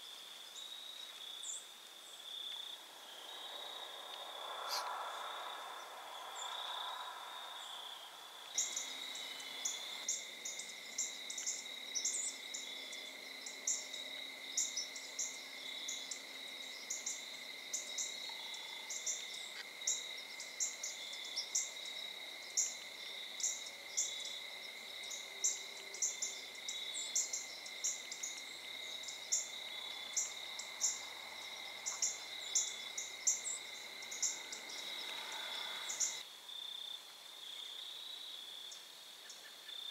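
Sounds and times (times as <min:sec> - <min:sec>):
crickets chirping: 0:00.0 - 0:39.9
insects chirping: 0:00.0 - 0:39.9.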